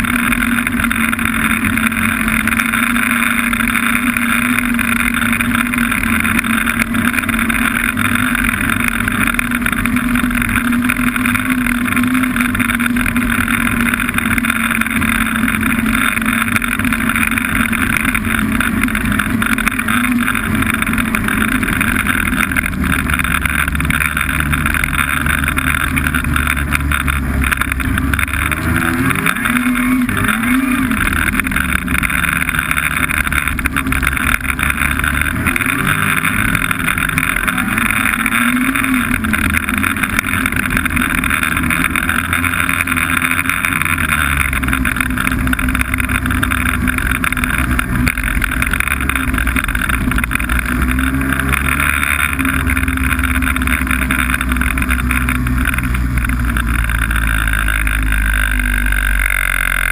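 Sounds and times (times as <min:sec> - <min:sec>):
deeper rumble: 0:00.0 - 0:59.9
snowmobile engine drone: 0:00.0 - 0:59.9.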